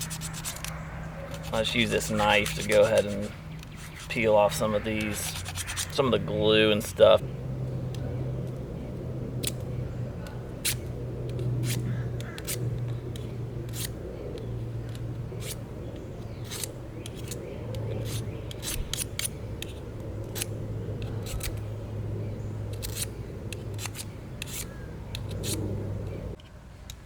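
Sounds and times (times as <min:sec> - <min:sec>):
knife scraping arrow shaft: 0:00.0 - 0:06.9, 0:10.6 - 0:21.8, 0:22.6 - 0:26.4
low hum: 0:00.0 - 0:26.9.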